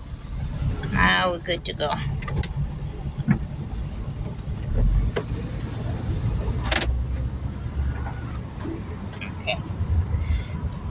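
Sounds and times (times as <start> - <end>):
car rumble inside cabin: 0.0 - 10.9.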